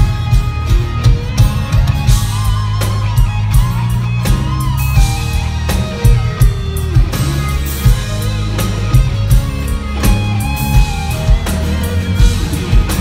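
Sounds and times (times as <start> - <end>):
bass guitar: 0.0 - 13.0
drums: 0.0 - 13.0
electric guitar solo: 0.0 - 13.0.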